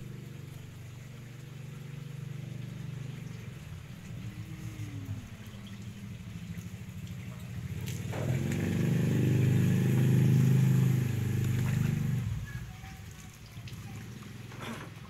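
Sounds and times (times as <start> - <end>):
motorbike engine passing: 0.0 - 12.9.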